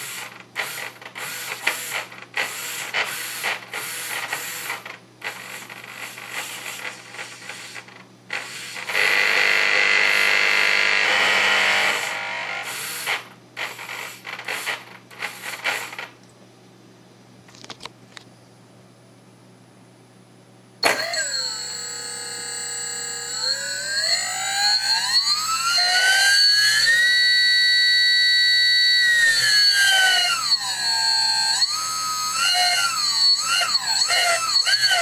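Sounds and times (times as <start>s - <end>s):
electric motor spinning: 0.0s - 16.1s, 20.8s - 35.0s.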